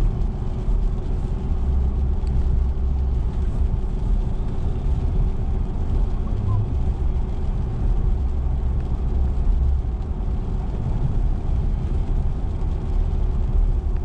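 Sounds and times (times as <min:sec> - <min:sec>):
car engine: 0:00.0 - 0:14.0
tyre and road noise: 0:00.0 - 0:14.0.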